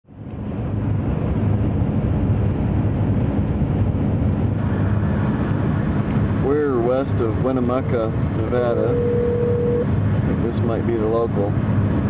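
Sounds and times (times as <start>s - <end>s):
car road and engine noise: 0.1s - 12.0s.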